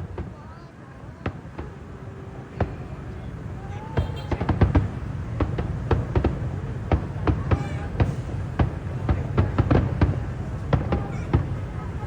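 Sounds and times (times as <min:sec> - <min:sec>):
faint crowd voices: 0:00.0 - 0:12.0
fireworks bangs: 0:00.0 - 0:12.0.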